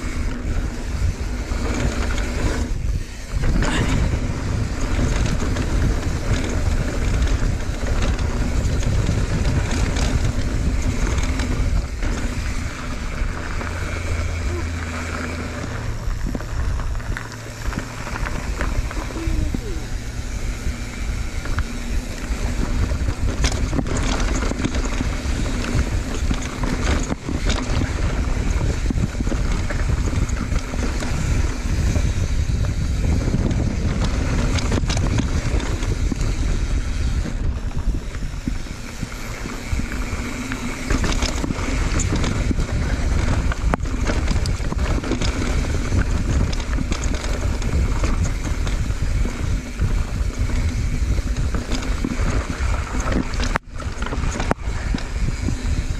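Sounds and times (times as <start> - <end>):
low rumble: 0.0 - 46.6
bike knocks and rattles: 0.0 - 55.9
wind buffeting microphone: 0.0 - 55.9.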